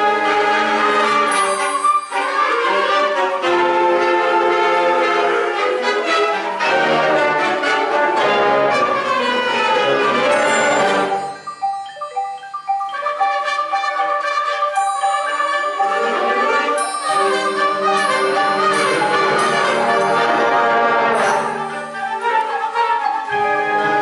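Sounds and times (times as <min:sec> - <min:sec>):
concert wind band playing: 0:00.0 - 0:11.6, 0:12.9 - 0:24.0.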